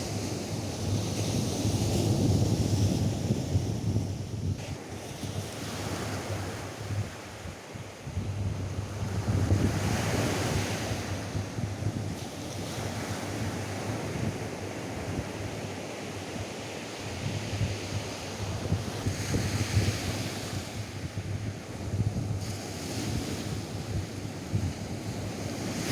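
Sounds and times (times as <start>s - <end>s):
wind buffeting microphone: 0.0s - 15.9s, 17.1s - 25.9s
surf washing on beach: 0.0s - 25.9s.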